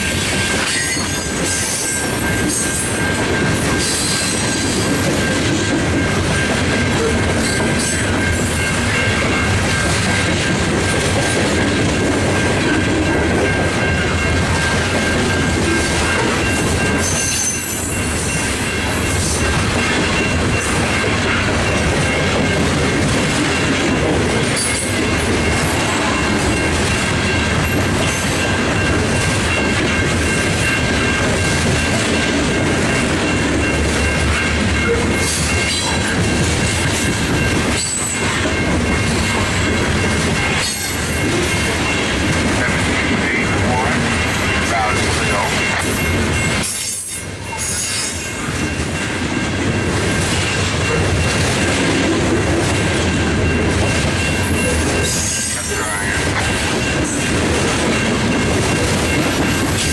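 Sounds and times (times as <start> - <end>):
steel wheels clattering on rails: 0.0 - 59.9.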